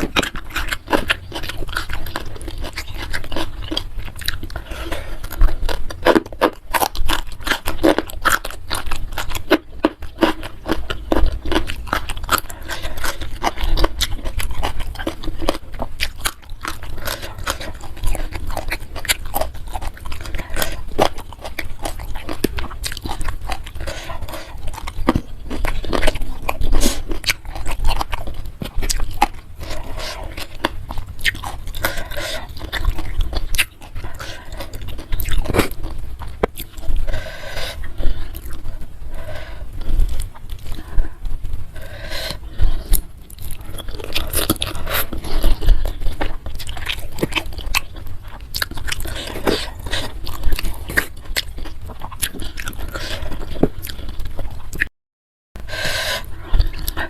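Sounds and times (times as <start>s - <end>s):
crunching and wet chewing: 0.0s - 54.9s, 55.6s - 57.0s.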